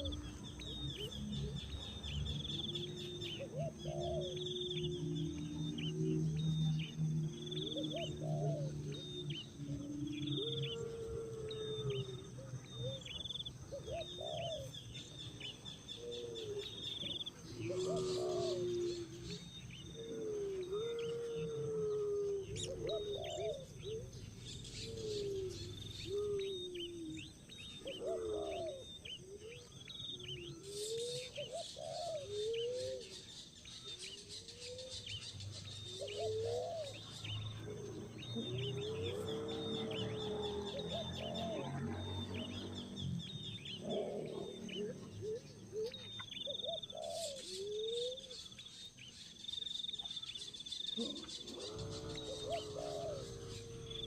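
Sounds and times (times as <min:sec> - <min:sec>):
lower wavering bird calls: 0:00.0 - 0:54.0.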